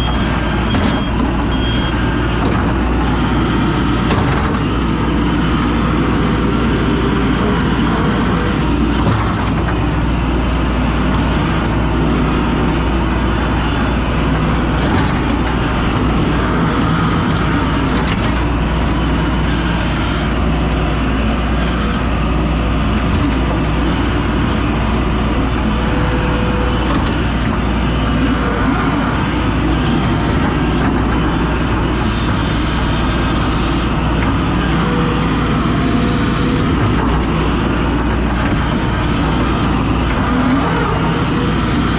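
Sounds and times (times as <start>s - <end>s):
skid steer engine running: 0.0s - 41.9s.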